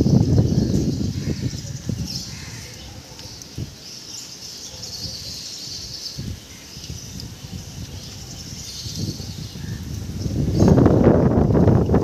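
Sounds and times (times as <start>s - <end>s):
wind buffeting microphone: 0.0s - 3.9s, 5.0s - 12.0s
rain falling: 0.0s - 12.0s
wind gusting through trees: 0.0s - 12.0s.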